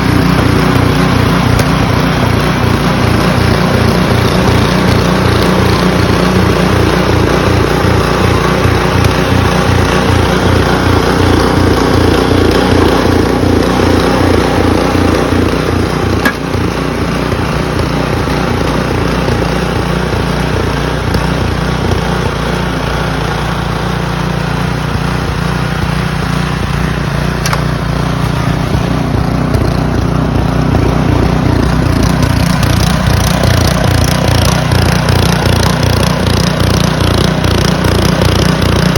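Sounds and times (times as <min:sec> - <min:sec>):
engine running with rapid pulsing: 0:00.0 - 0:38.9.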